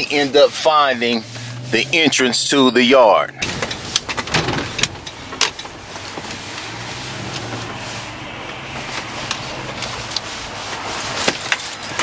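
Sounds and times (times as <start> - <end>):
road noise rush: 0.0 - 12.0
truck engine humming: 0.0 - 12.0.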